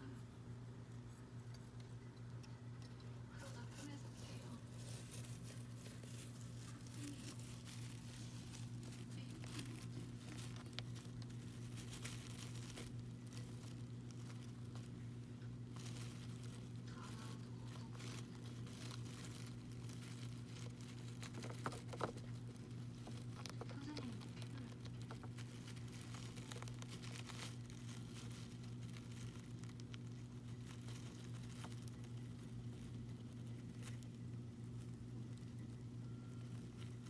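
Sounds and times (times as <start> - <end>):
hamster rustling and crinkling: 0.0 - 37.0
low electrical hum: 0.0 - 37.0.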